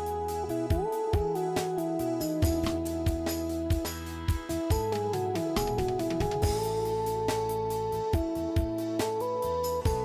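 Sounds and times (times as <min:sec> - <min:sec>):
melody over light beat: 0:00.0 - 0:10.0.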